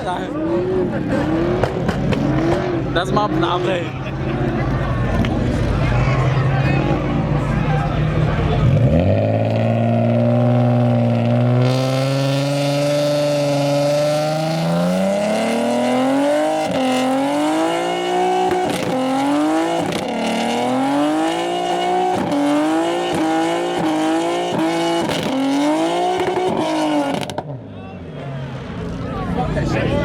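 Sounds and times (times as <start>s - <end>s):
car engine revving: 0.0s - 27.7s.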